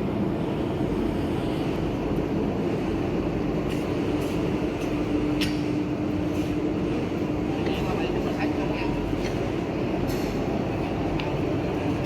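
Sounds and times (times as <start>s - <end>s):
machinery rumble: 0.0s - 12.0s
steady hum: 0.0s - 12.0s.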